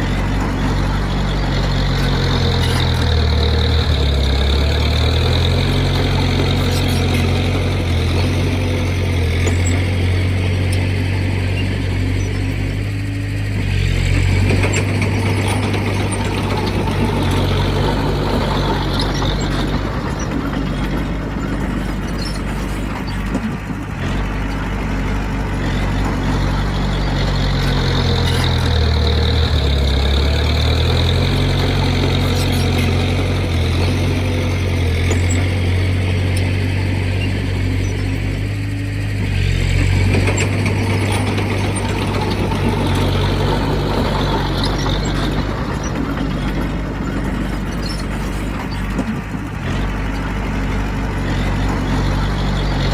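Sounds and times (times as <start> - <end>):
heavy diesel engine working: 0.0 - 52.9.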